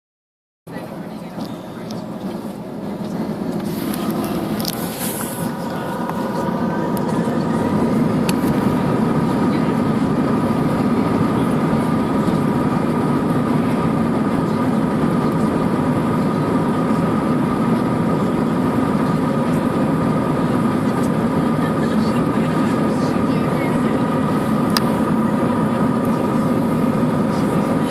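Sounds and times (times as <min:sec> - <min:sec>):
jet engines rushing and whining: 0:00.7 - 0:27.9.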